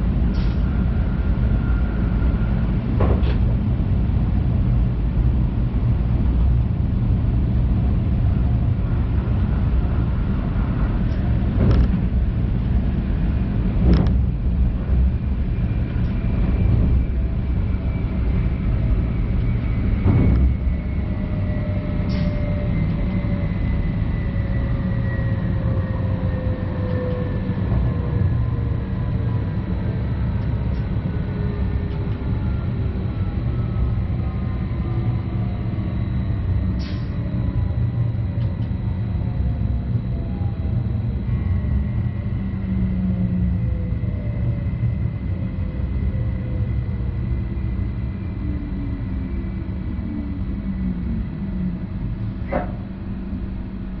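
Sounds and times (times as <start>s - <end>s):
traction equipment whine: 0.0s - 54.0s
train rumbling on track: 0.0s - 54.0s.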